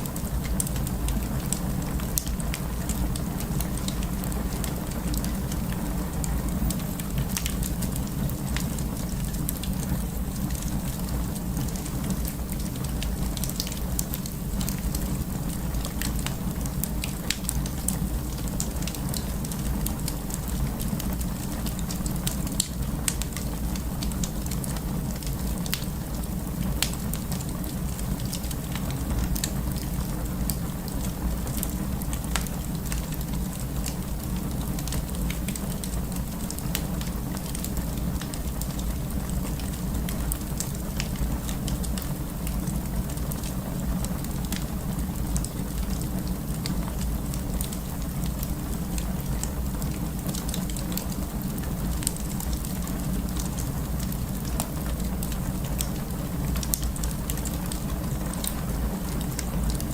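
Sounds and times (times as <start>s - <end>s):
flames burning: 0.0s - 59.9s
wood fire crackling and popping: 0.0s - 59.9s.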